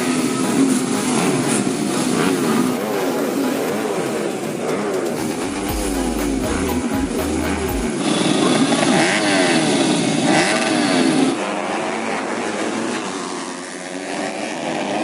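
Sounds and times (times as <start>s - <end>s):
motocross bikes racing: 0.0s - 15.0s.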